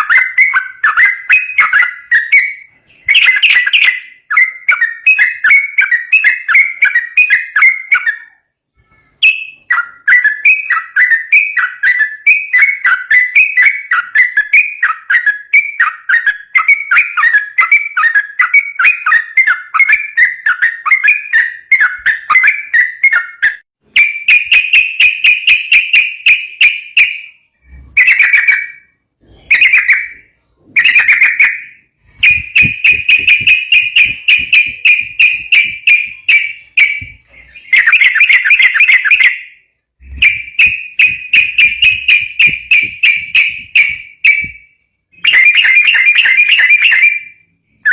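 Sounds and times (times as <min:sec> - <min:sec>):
bird singing whistled notes: 0:00.0 - 0:47.9.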